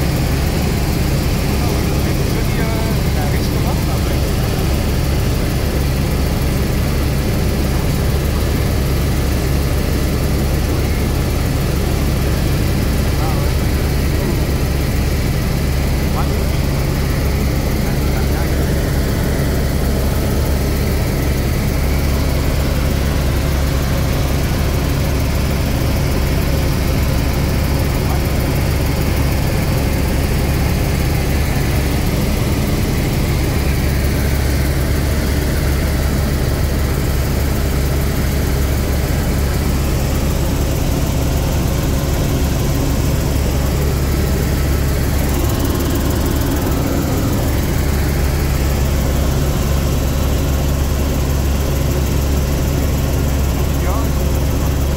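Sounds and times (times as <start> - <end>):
constant rushing noise: 0.0 - 54.9
helicopter cabin drone: 0.0 - 54.9.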